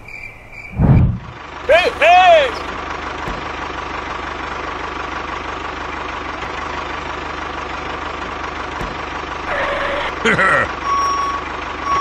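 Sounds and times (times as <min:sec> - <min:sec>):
diesel tractor engine idling: 0:01.1 - 0:12.0.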